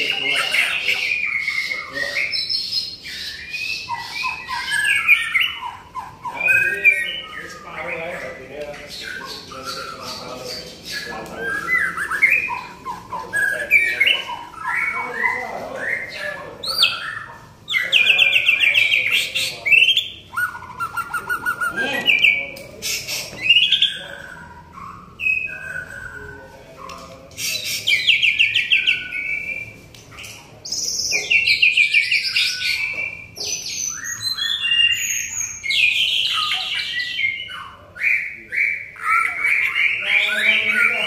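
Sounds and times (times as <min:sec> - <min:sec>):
songbird trilling and whistling: 0:00.0 - 0:41.0.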